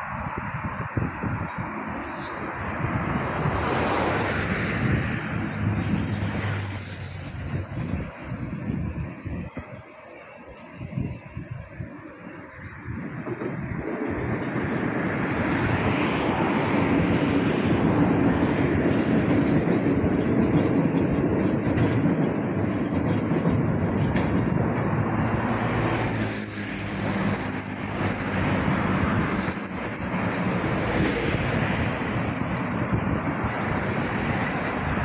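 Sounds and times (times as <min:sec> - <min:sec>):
road traffic engine hum: 0:00.0 - 0:35.0
train rumbling past: 0:00.0 - 0:35.0.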